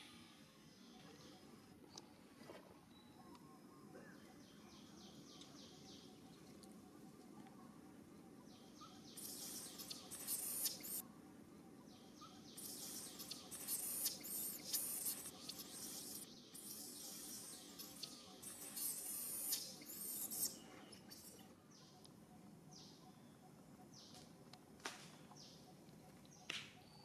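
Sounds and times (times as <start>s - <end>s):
faint outdoor background: 0.0s - 27.0s
birds chirping: 2.8s - 24.4s, 25.1s - 27.0s.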